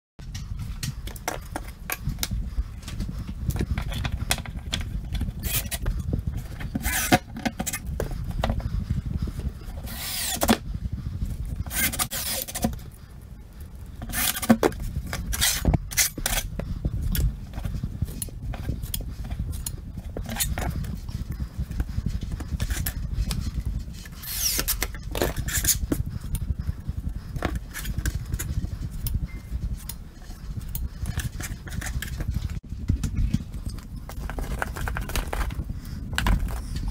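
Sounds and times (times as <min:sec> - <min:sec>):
steady low rumble: 0:00.2 - 0:36.9.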